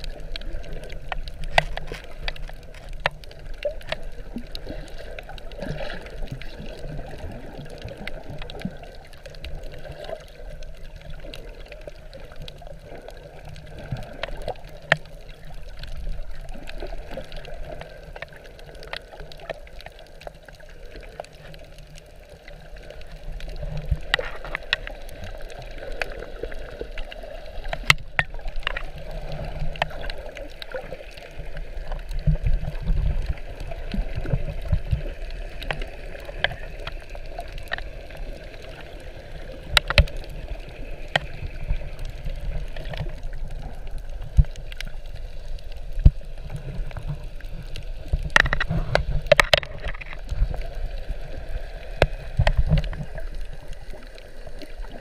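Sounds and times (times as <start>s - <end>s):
muffled underwater water movement: 0.0s - 55.0s
sharp underwater clicks: 0.0s - 55.0s.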